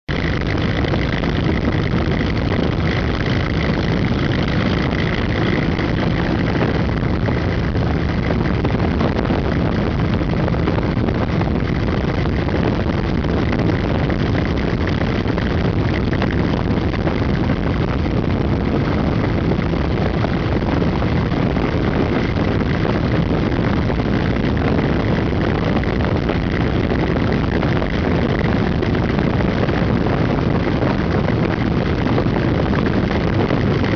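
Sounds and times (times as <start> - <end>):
wind and road noise: 0.0 - 33.9
motorcycle engine running: 0.1 - 33.9.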